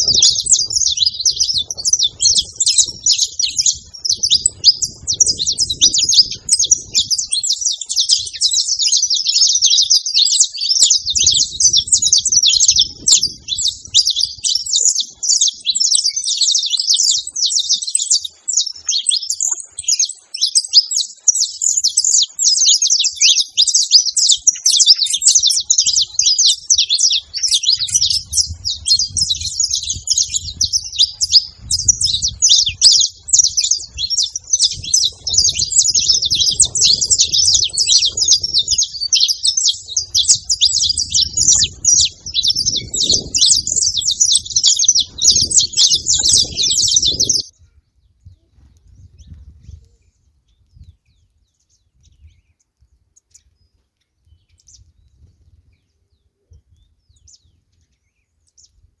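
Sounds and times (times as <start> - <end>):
finches chirping: 0.0 - 47.7.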